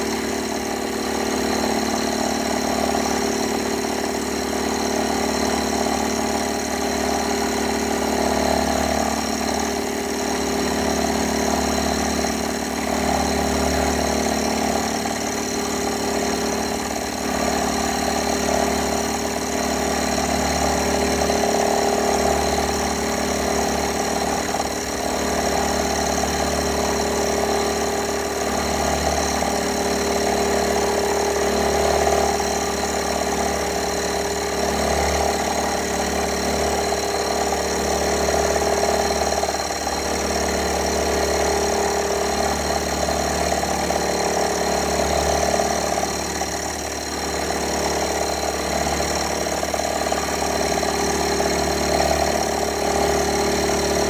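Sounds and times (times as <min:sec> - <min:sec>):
machine tool motor humming: 0:00.0 - 0:54.0.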